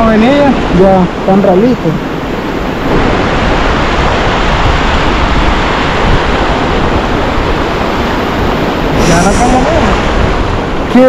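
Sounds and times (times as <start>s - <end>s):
ocean surf washing on sand: 0.0s - 11.0s
wind rumbling on microphone: 0.0s - 11.0s.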